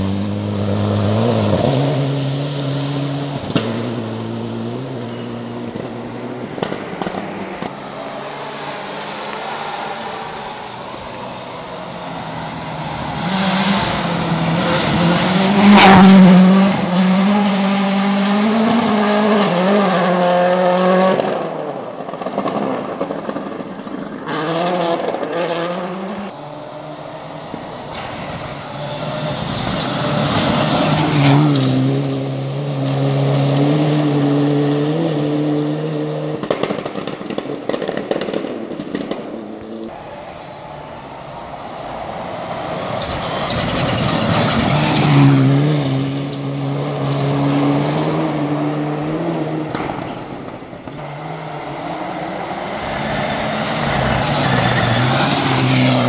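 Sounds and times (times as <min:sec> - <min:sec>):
car passing close: 0:00.0 - 0:56.0
rally car engines at full throttle: 0:00.0 - 0:56.0.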